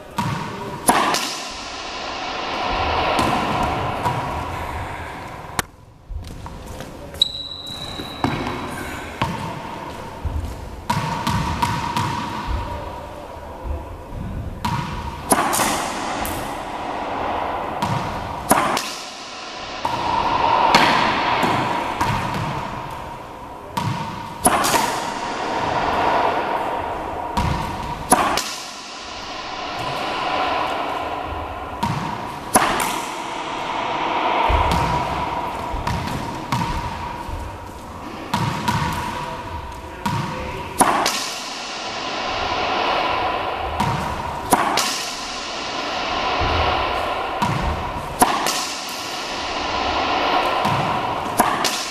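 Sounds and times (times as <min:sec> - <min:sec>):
racquetball hitting front wall: 0:00.2 - 0:01.9, 0:10.2 - 0:12.8, 0:14.6 - 0:51.9.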